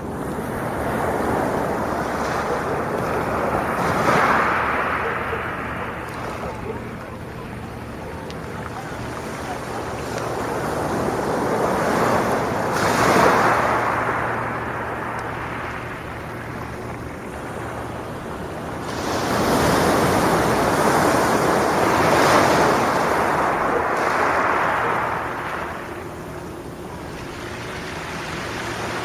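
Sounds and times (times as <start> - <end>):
sea waves washing on beach: 0.0 - 29.0.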